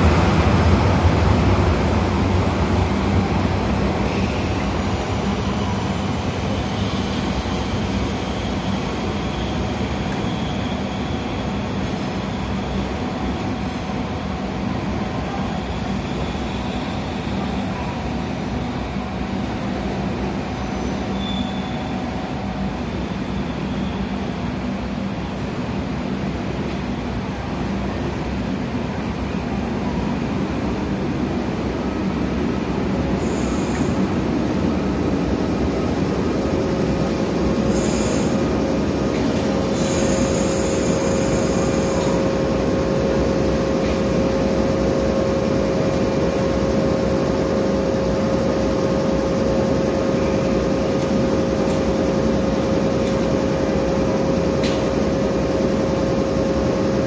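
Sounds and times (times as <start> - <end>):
diesel locomotive engine hum: 0.0 - 57.0
train wheels on rails: 0.0 - 57.0.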